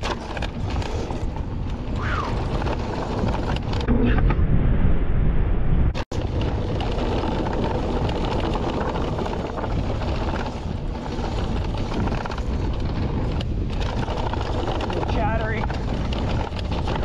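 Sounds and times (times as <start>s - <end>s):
bike tyres rumbling on dirt: 0.0s - 5.1s, 5.9s - 17.0s
wind buffeting microphone: 0.0s - 17.0s.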